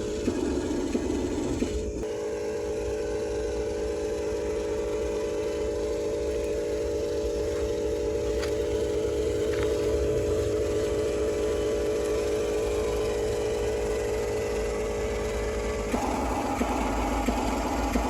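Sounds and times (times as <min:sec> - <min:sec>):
electric motors and gearboxes whining: 0:00.0 - 0:18.0.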